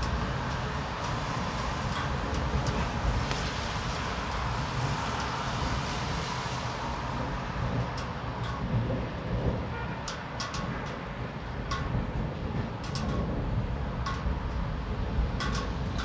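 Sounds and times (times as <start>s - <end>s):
sharp drip ticks: 0.0s - 6.6s, 7.2s - 16.0s
continuous low rumble: 0.0s - 16.0s
steady rain: 0.0s - 16.0s.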